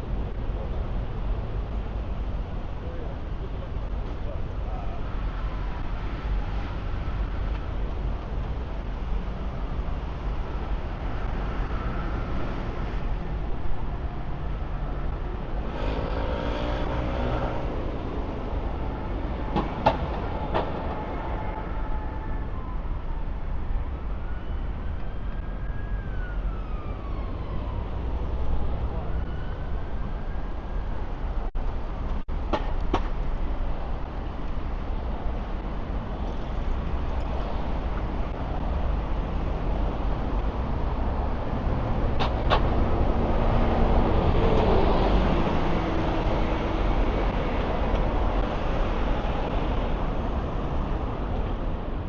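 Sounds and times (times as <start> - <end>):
street traffic rumble: 0.0 - 52.0.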